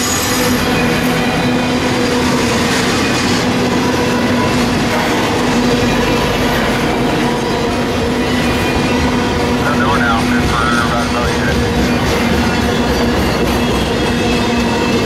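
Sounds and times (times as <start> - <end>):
steel wheels on rail: 0.0 - 15.0.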